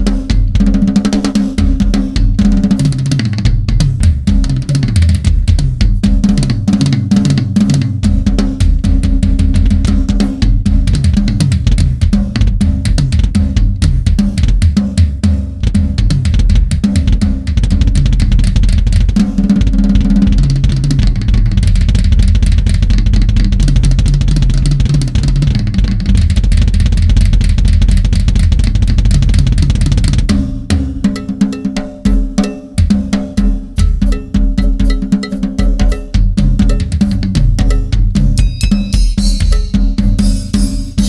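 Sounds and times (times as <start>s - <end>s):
drum solo on toms and bass drum: 0.0s - 41.0s.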